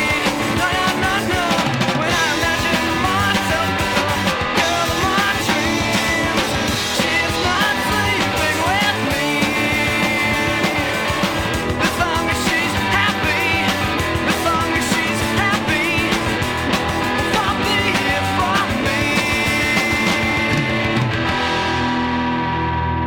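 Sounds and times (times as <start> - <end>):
rock music with guitar and drums: 0.0 - 23.0.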